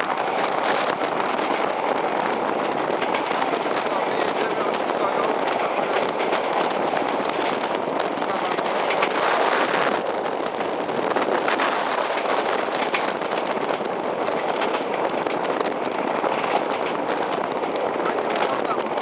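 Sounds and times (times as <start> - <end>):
rapid crackling and rattling: 0.0 - 19.0
train rushing on track: 0.0 - 19.0.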